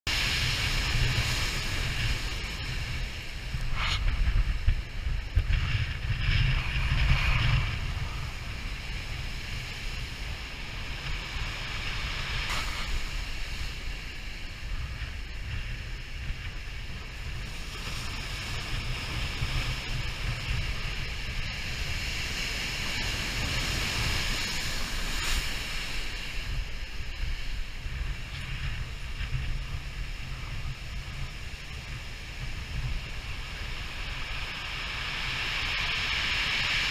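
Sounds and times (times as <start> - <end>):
ocean waves breaking: 0.1 - 36.9
wind buffeting microphone: 0.1 - 36.9.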